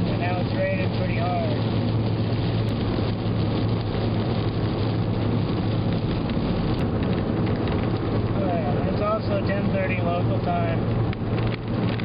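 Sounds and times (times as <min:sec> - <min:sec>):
car cabin road noise: 0:00.0 - 0:12.0
rain hitting windshield: 0:00.0 - 0:12.0.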